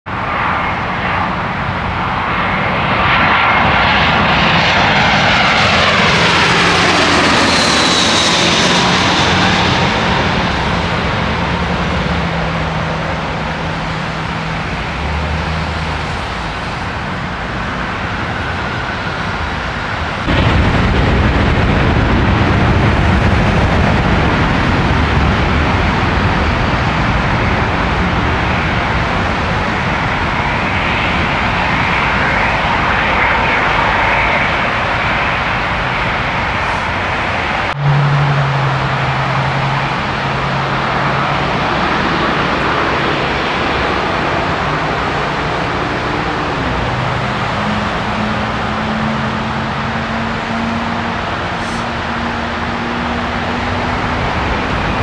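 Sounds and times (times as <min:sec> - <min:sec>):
jet airliner engine whine: 0:00.1 - 0:55.0
heavy low rumble: 0:01.0 - 0:55.0.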